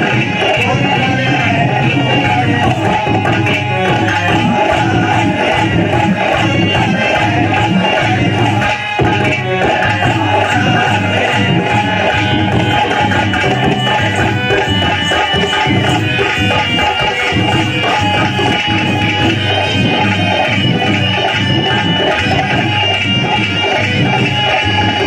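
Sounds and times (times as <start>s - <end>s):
folk music played live: 0.0s - 25.0s
hand drums beating: 0.0s - 25.0s.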